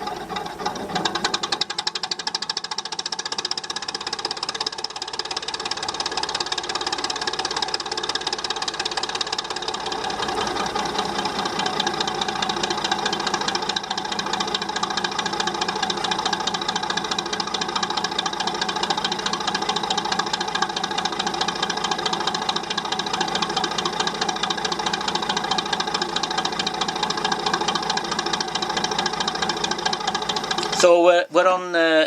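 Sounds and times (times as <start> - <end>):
diesel engine clattering: 0.0 - 32.0.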